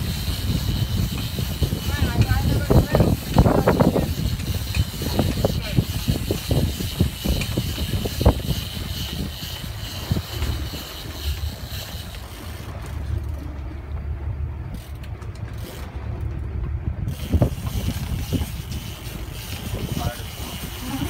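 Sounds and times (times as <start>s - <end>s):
boat engine rumble: 0.0s - 21.0s
wind buffeting microphone: 0.0s - 21.0s.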